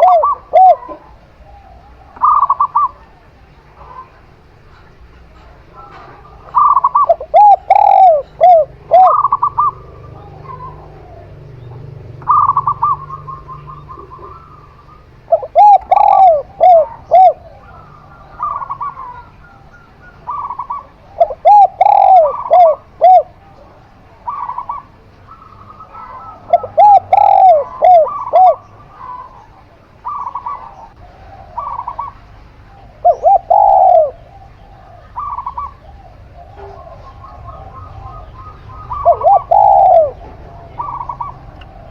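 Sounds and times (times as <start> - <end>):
trilling coos: 0.0 - 4.6, 5.4 - 41.9
doves cooing: 0.0 - 41.9.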